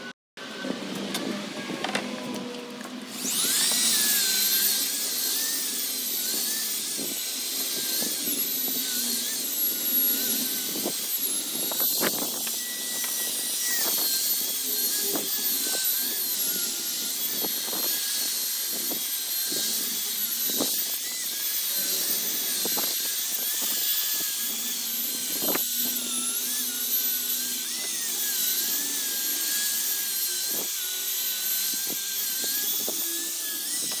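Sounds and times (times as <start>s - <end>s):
power sander whining: 0.0s - 34.0s.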